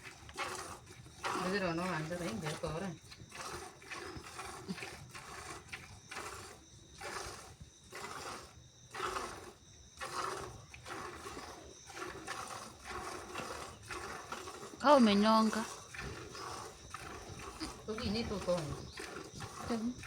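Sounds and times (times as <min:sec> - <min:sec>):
milk squirting into container: 0:00.0 - 0:20.0.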